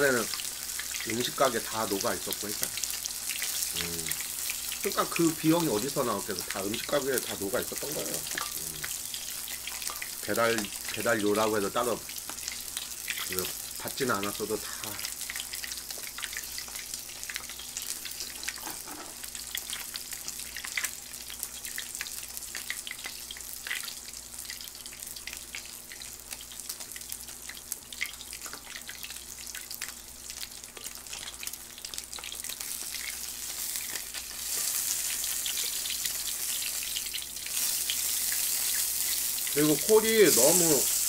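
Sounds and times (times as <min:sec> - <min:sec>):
pork sizzling on grill pan: 0:00.0 - 0:41.0.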